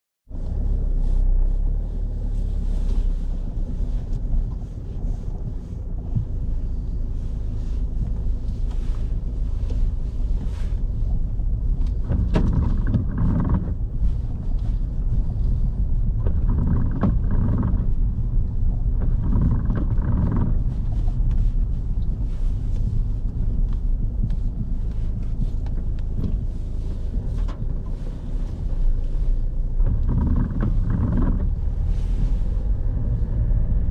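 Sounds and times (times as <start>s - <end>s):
car engine and tyre rumble: 0.2s - 33.9s.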